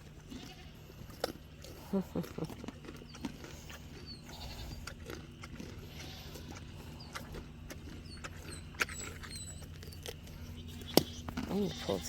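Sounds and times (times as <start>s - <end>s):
animals crunching carrots: 0.0s - 12.0s
low steady hum: 0.0s - 12.0s.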